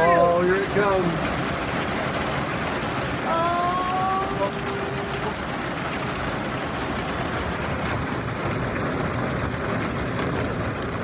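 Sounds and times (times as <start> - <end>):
hard rain on a vehicle roof: 0.0 - 11.0.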